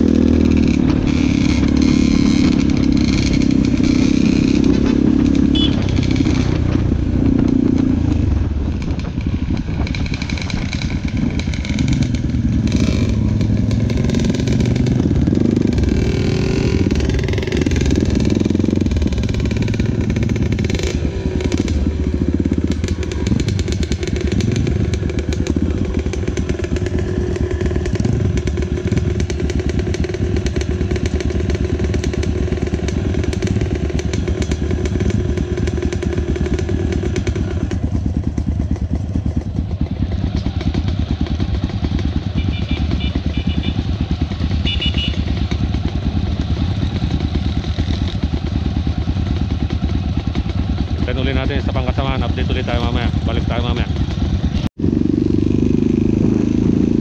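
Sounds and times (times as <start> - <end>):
dirt bike engine running: 0.0 - 57.0
other dirt bike engines: 0.0 - 57.0.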